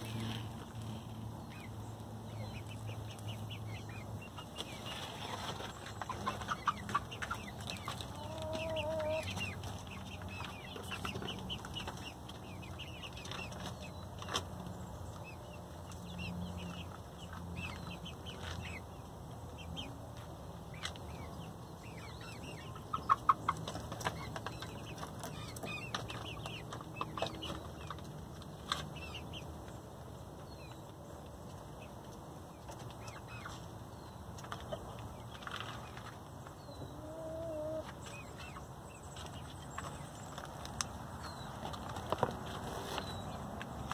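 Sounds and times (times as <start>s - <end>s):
hens clucking: 0.0s - 29.8s, 31.5s - 43.9s.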